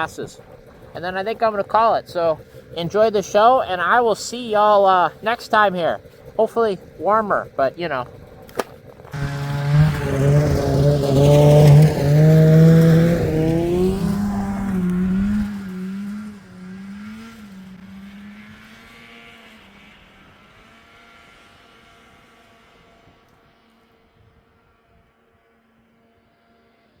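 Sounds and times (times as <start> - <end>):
snowmobile engine pulling away: 0.0 - 27.0.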